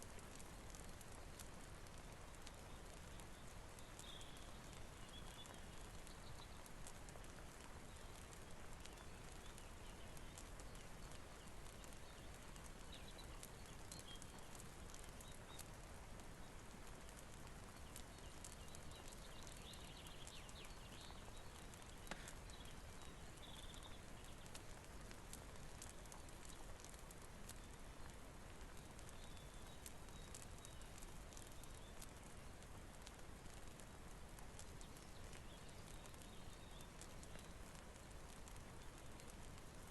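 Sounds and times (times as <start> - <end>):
faint steady rain hiss: 0.0 - 39.9
wood fire crackling: 0.0 - 39.9.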